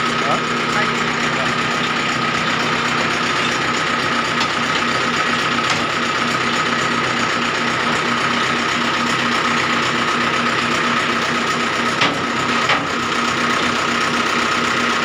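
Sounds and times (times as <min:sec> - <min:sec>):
brick extruder clattering: 0:00.2 - 0:14.8.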